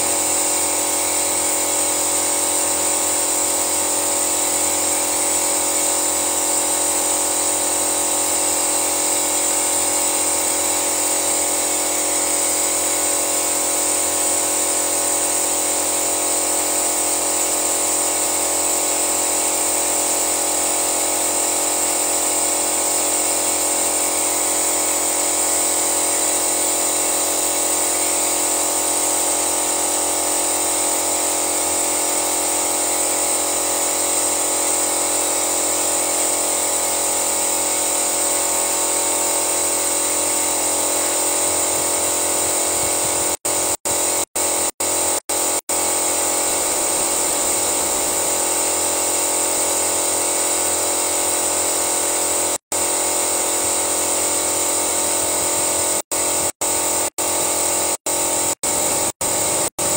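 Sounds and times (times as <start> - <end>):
pump motor whining: 0.0 - 59.9.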